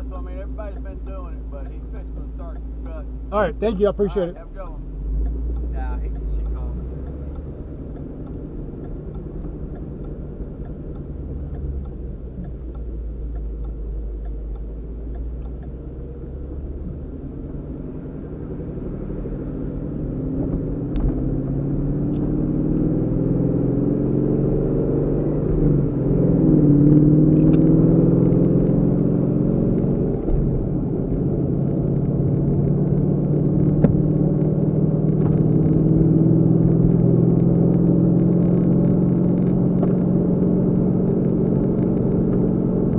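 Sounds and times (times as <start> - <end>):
car engine accelerating: 0.0 - 42.9
road rumble: 0.0 - 42.9.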